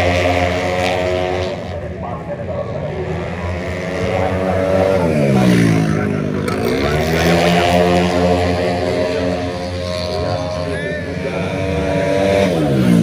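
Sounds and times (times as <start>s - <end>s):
racing scooter engine passing: 0.0s - 13.0s.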